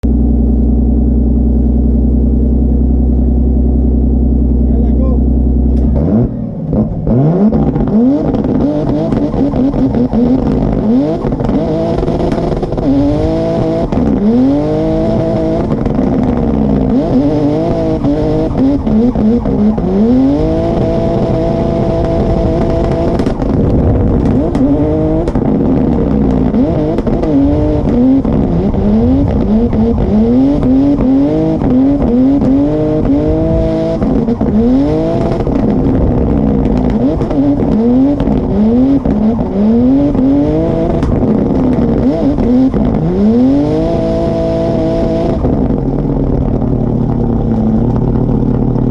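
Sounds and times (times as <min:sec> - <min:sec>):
car engine revving hard: 0:04.6 - 0:48.9.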